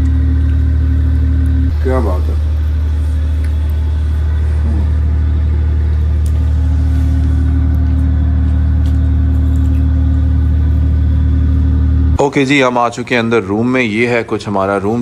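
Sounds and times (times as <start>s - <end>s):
low engine hum: 0.0s - 12.2s.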